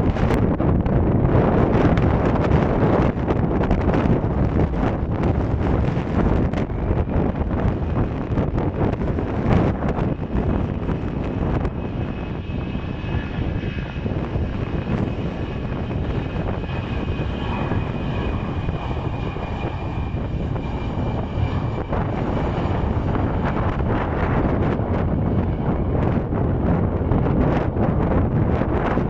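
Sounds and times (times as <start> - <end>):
jet engines whining: 0.0 - 29.0
wind rumble on microphone: 0.0 - 29.0.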